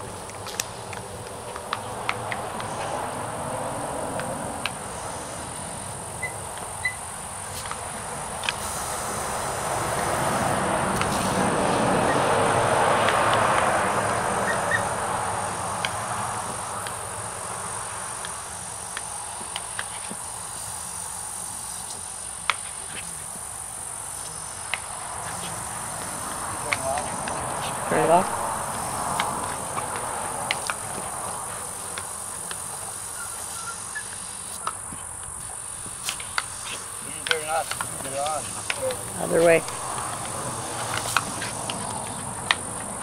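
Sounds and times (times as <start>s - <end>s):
lawn sprinkler water spray hissing: 0.0s - 43.0s.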